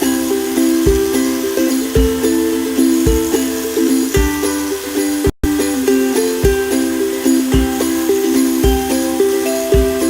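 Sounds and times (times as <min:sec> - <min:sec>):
light melody over low beat: 0:00.0 - 0:10.0.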